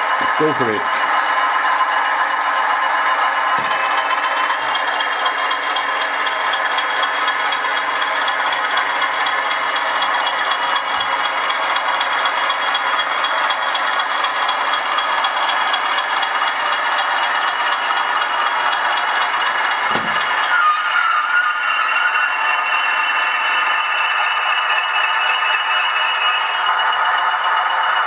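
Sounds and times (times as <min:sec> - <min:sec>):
model train rattling: 0:00.0 - 0:28.0.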